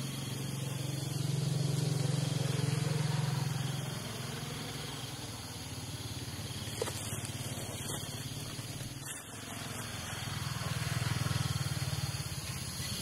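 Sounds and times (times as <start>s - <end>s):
faint outdoor hiss: 0.0s - 13.0s
low engine hum: 0.0s - 13.0s.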